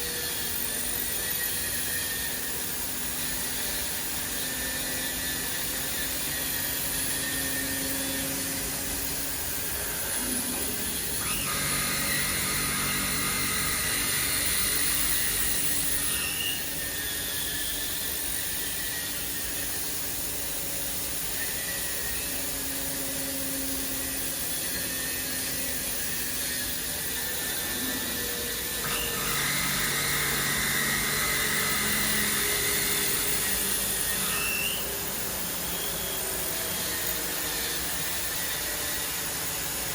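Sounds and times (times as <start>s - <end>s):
high machine whine: 0.0s - 39.9s
machine whirring: 0.0s - 39.9s.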